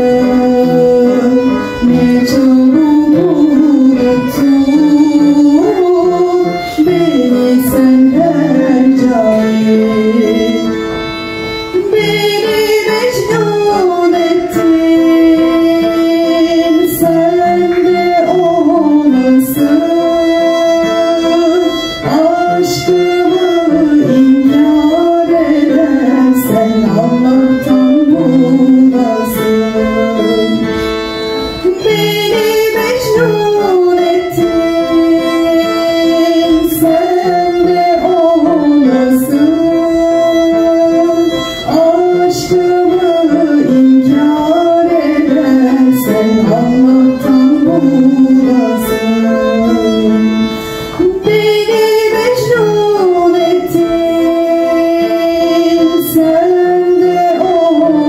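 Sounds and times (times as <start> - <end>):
person singing with wavering pitch: 0.0 - 10.9, 11.8 - 30.8, 31.6 - 58.0
instrumental backing: 0.0 - 58.0.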